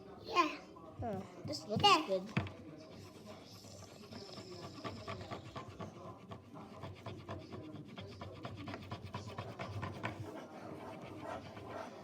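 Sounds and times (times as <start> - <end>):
colouring tool scratching on paper: 1.5 - 12.0.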